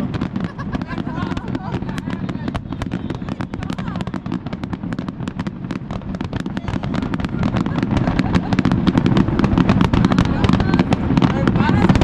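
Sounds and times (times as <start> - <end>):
rapid crackling and popping: 0.0 - 12.0.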